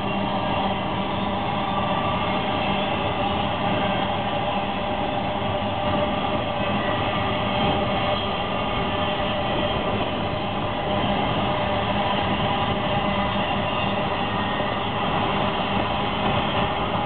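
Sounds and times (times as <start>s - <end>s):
freight train rumbling and rattling: 0.0s - 17.0s.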